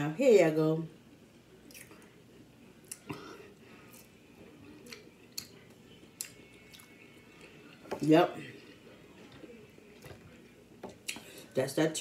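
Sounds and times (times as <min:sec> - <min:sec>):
faint tv voices: 0:00.2 - 0:12.0.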